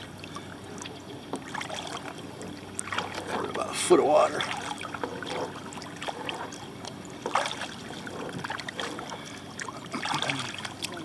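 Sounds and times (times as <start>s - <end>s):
paddle strokes in water: 0.0s - 11.0s
water splashing: 0.0s - 11.0s.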